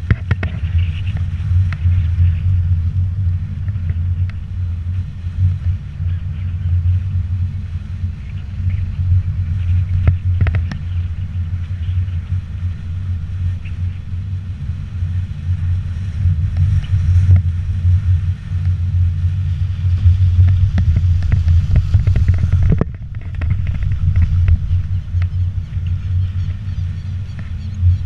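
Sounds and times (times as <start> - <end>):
wind and road rumble: 0.0 - 28.0.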